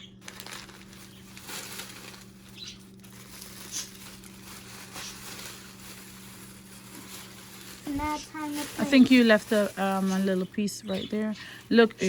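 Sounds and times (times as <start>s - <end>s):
toy packaging rustling: 0.0s - 11.9s
steady low hum: 0.0s - 12.0s.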